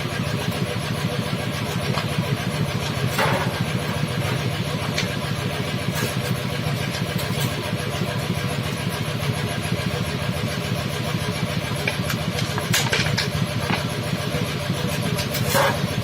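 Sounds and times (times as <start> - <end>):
two-stroke scooter engine running: 0.0 - 16.0.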